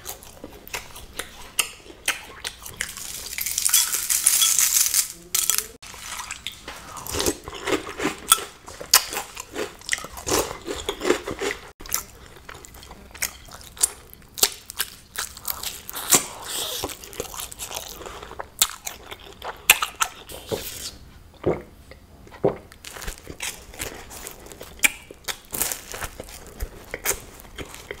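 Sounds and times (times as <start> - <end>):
crunchy cereal being chewed: 0.0 - 21.0, 22.6 - 28.0.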